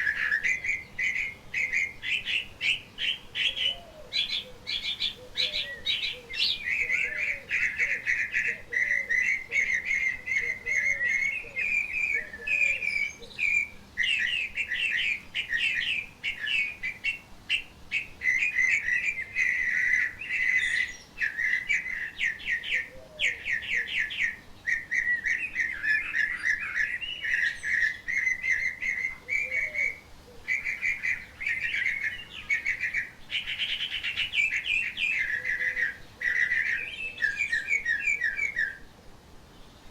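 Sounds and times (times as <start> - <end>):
songbird chattering warble: 0.0 - 38.9.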